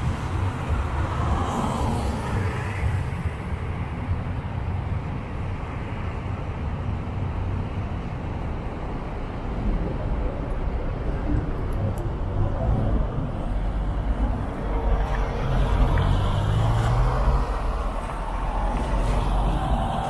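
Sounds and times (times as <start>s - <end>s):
buses and road traffic rumble: 0.0s - 20.0s.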